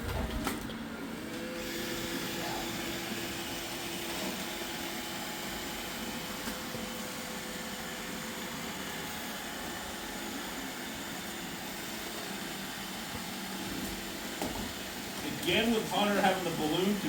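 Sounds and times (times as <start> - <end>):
robot vacuums whirring: 0.8 - 17.0.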